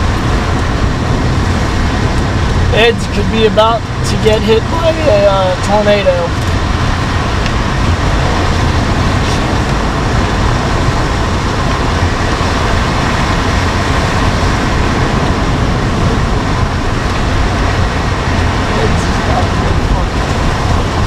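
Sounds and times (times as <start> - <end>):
car rumbling on wet road: 0.0 - 21.0
rain on windshield: 0.0 - 21.0.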